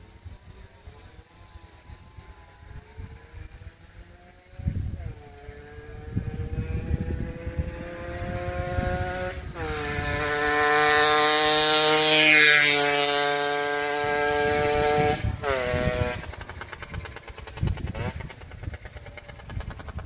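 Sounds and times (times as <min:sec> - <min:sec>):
two-stroke motorcycle passing: 0:00.0 - 0:20.0
wind buffeting microphone: 0:01.8 - 0:20.0.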